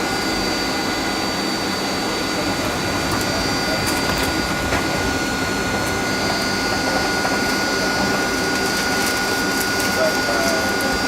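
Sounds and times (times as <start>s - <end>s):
jet cabin rushing noise: 0.0s - 11.0s
steady high whine: 0.0s - 11.0s.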